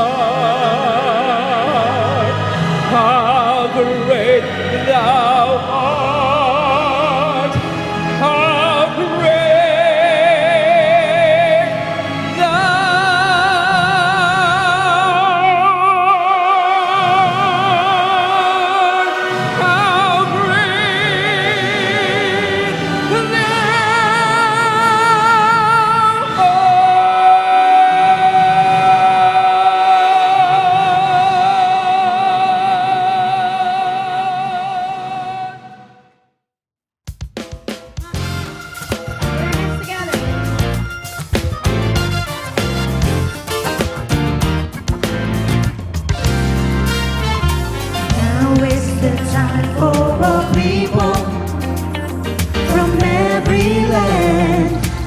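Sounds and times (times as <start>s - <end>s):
musical accompaniment: 0.0s - 35.7s, 37.1s - 55.0s
operatic singing: 0.0s - 36.2s, 38.0s - 55.0s.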